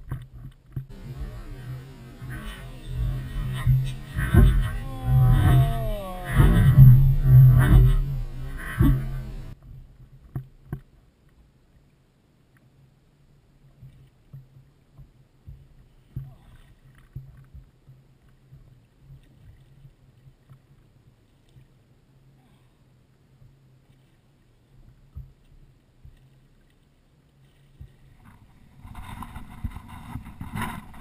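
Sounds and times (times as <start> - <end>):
faint water noise: 0.0 - 31.0.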